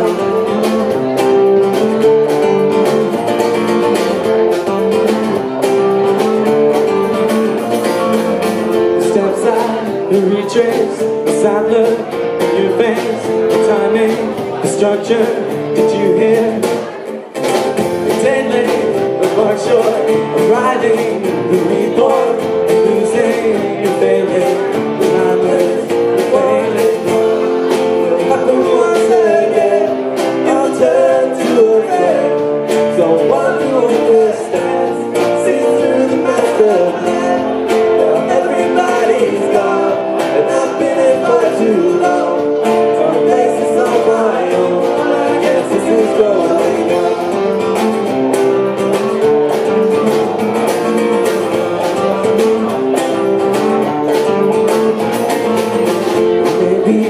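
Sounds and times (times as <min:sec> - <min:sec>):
bass guitar: 0:00.0 - 0:57.0
drum kit: 0:00.0 - 0:57.0
electric guitar: 0:00.0 - 0:57.0
strummed acoustic guitar: 0:00.0 - 0:57.0.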